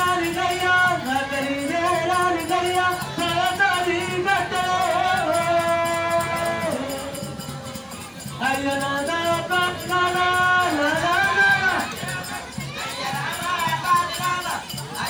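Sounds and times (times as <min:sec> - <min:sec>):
percussion: 0:00.0 - 0:15.0
person singing folk melody: 0:00.0 - 0:15.0.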